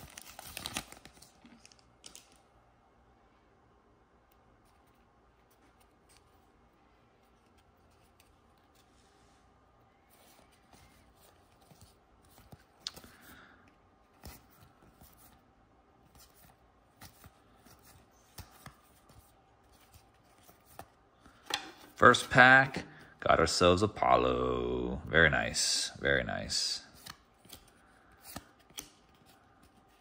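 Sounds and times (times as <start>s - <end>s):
trading cards rustling: 0.0s - 2.5s, 4.5s - 30.0s.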